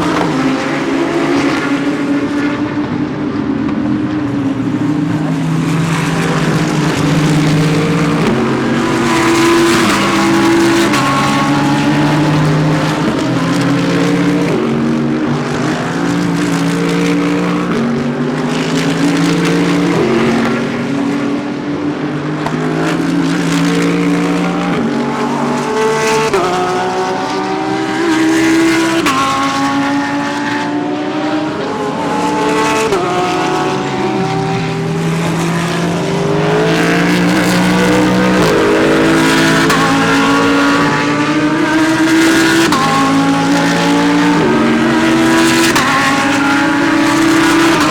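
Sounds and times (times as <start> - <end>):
race cars accelerating: 0.0 - 47.9.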